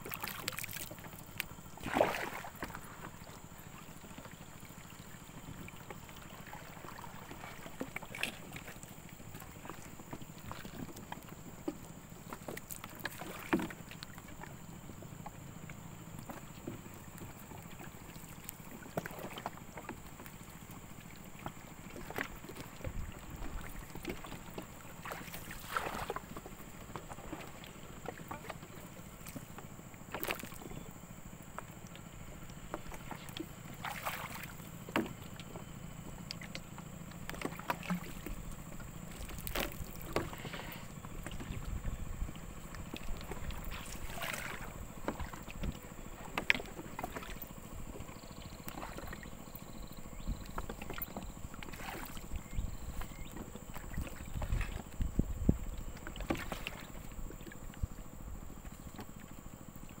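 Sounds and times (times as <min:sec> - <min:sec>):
water noise: 0:00.0 - 1:00.0
faint high whine: 0:11.9 - 1:00.0.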